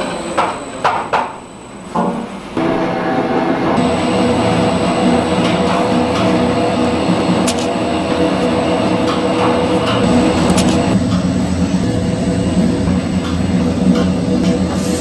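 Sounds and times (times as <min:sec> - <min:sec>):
noodle machine motor humming: 0:02.6 - 0:14.7.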